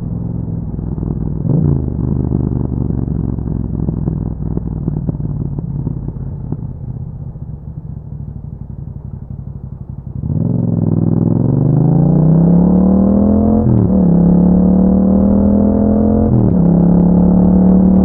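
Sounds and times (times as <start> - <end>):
motorcycle engine burbling and accelerating: 0.0 - 18.0.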